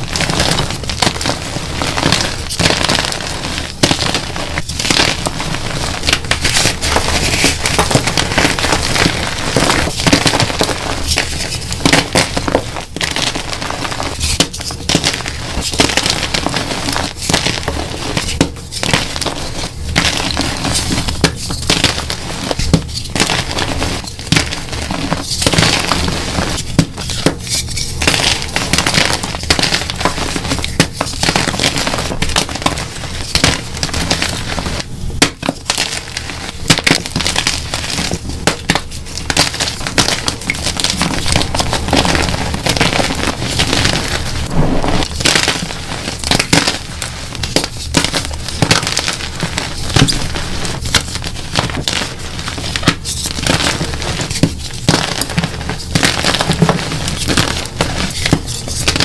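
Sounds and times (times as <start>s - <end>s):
chalk blocks crunching and crumbling: 4.2s - 59.0s.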